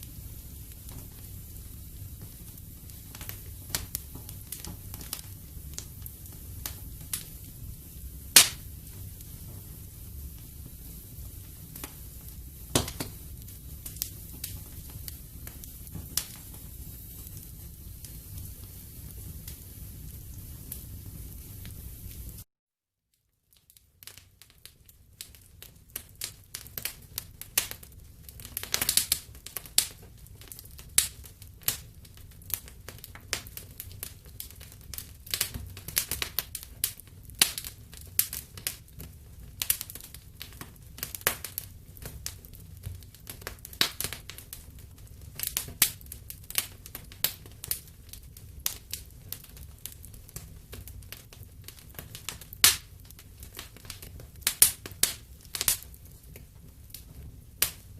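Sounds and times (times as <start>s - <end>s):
fire popping and snapping: 0.0s - 22.5s, 23.2s - 57.9s
low fire rumble: 0.0s - 22.5s, 23.9s - 57.9s
wood fire crackling: 0.0s - 22.5s, 23.2s - 57.9s.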